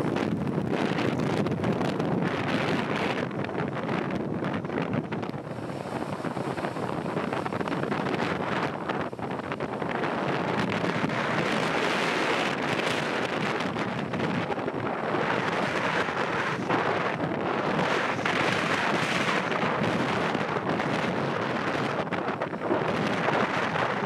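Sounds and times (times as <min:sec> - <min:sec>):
jet engines rumbling: 0:00.0 - 0:24.0
wind noise on microphone: 0:00.0 - 0:24.0.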